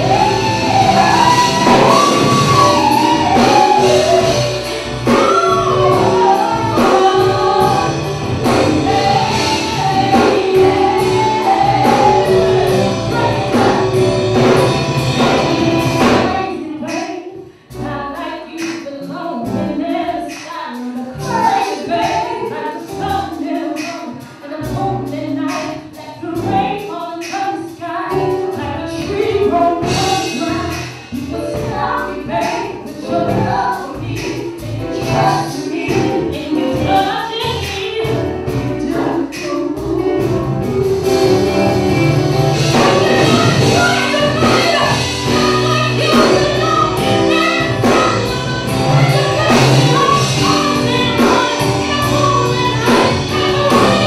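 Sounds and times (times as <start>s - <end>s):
female backing singers: 0.0s - 54.0s
live band music: 0.0s - 54.0s
woman singing lead: 0.0s - 54.0s.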